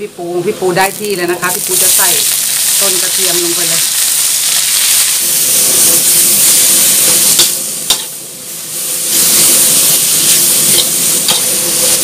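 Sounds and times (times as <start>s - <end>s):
sizzling in a wok: 0.0s - 12.0s.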